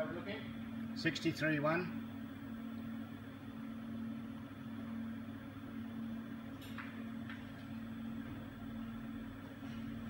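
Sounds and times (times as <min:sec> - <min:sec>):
embroidery machine electrical hum: 0:00.0 - 0:10.0.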